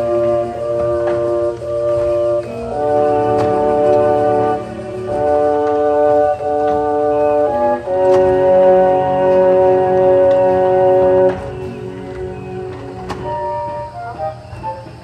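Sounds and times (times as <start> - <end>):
organ-like chords: 0.0 - 15.0.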